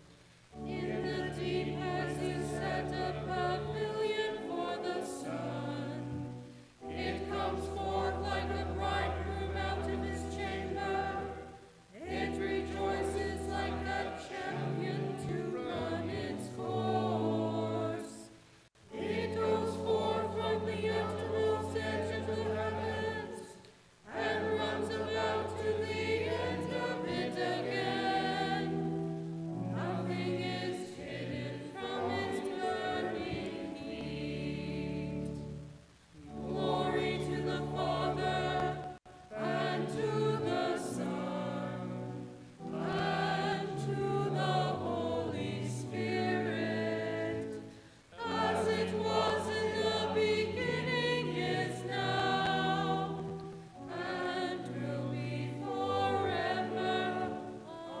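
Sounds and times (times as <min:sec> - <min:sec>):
church choir singing: 0:00.0 - 0:58.0.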